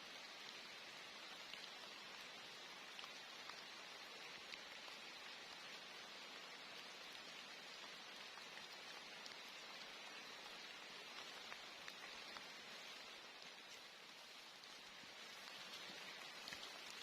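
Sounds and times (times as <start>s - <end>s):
steady rain falling: 0.0s - 17.0s
raindrop ticks: 0.2s - 17.0s.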